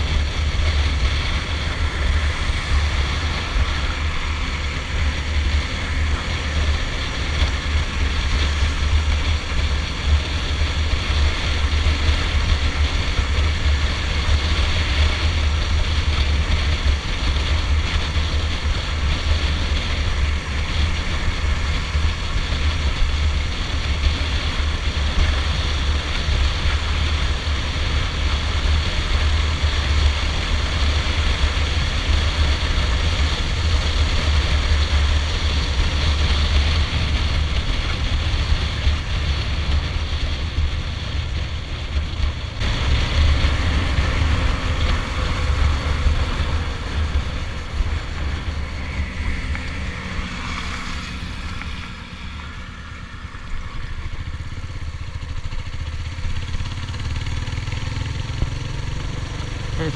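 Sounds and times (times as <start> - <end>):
motorcycle engine cruising: 0.0 - 59.9
wind rumble on microphone: 0.0 - 59.9.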